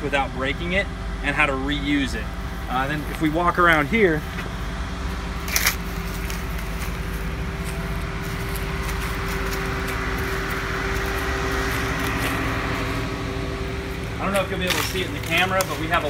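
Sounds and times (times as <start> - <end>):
vehicle motor hum: 0.0 - 16.0.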